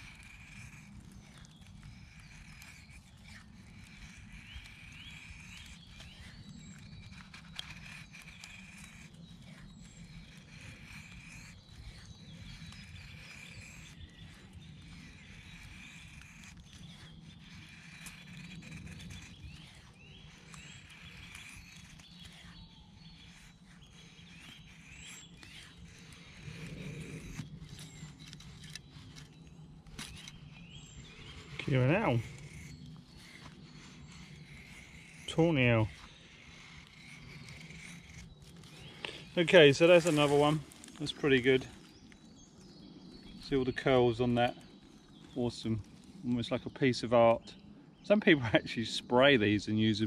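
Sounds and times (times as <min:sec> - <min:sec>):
knife shaving wooden stick: 0:00.0 - 0:47.7
birds calling: 0:00.0 - 0:50.0.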